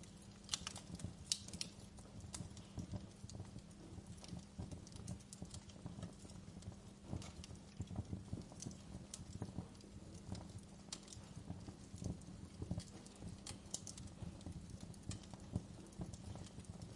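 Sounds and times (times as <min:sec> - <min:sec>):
low rumble of flames: 0:00.0 - 0:16.9
wood fire crackling and snapping: 0:00.0 - 0:16.9.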